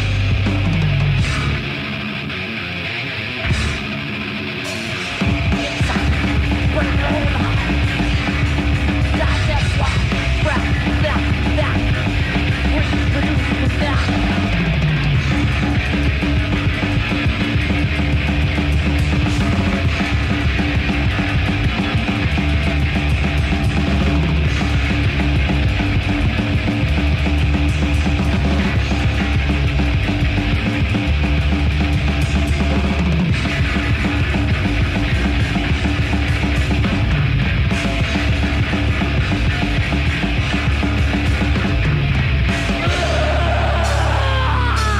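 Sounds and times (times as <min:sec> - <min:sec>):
death metal band playing live: 0:00.0 - 0:44.9.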